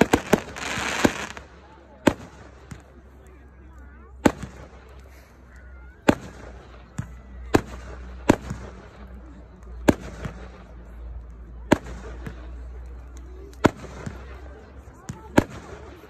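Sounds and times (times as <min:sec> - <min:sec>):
fireworks bursting with sharp bangs: 0:00.0 - 0:03.1, 0:04.1 - 0:05.2, 0:06.0 - 0:16.0.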